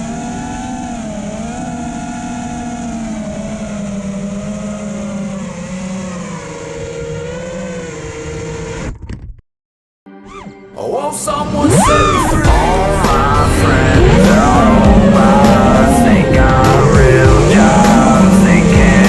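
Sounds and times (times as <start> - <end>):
drone motors whining: 0.0 - 9.0, 11.4 - 19.0.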